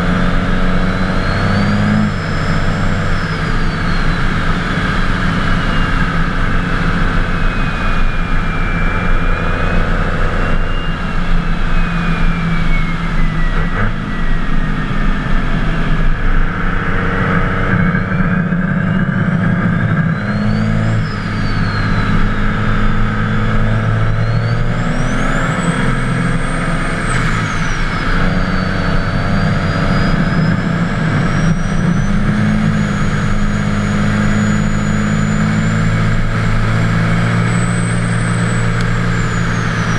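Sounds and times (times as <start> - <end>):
diesel engine running: 0.0 - 39.9
turbocharger whistle: 0.0 - 39.9.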